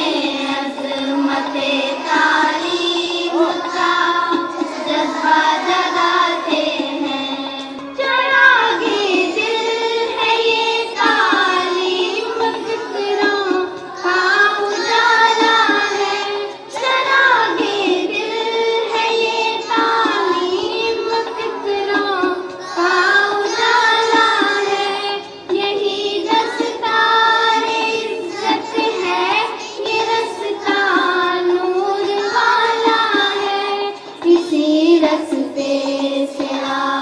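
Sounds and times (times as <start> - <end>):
children singing: 0.0 - 37.0.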